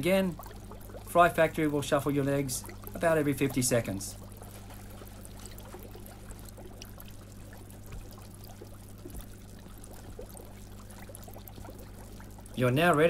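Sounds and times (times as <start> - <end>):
aquarium water trickling: 0.0 - 13.0
low electrical hum: 0.0 - 13.0.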